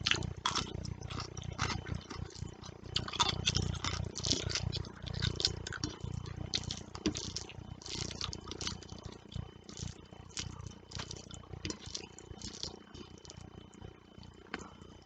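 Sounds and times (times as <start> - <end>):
chewing and wet mouth sounds: 0.0 - 15.0.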